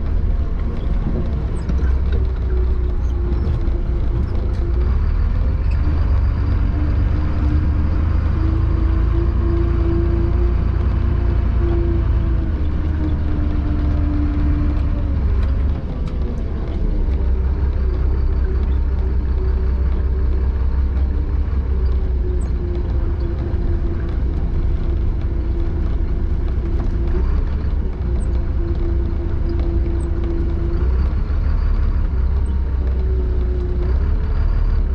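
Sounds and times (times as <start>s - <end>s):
diesel truck engine rumble: 0.0s - 34.9s.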